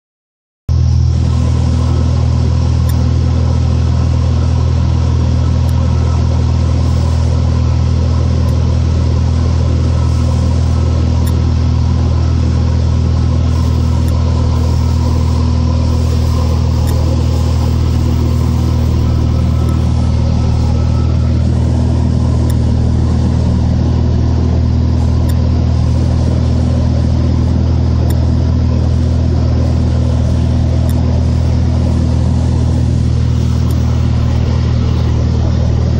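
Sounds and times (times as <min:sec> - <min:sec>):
airplane engine and propeller droning: 0:00.7 - 0:35.9.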